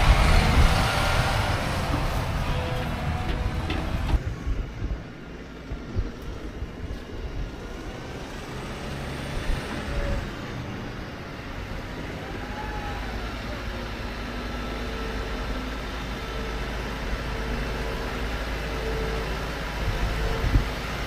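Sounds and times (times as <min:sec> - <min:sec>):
heavy farm machinery rumbling: 0:00.0 - 0:21.0.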